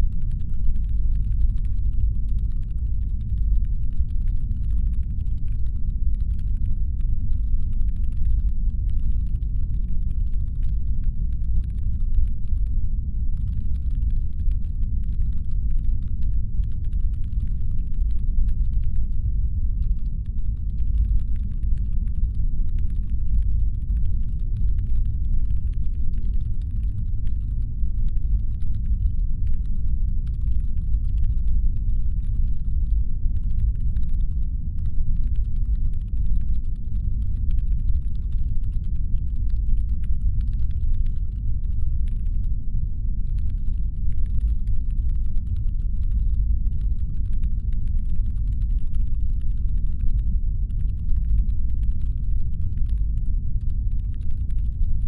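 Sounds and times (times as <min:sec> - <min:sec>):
deep brown-noise rumble: 0:00.0 - 0:55.0.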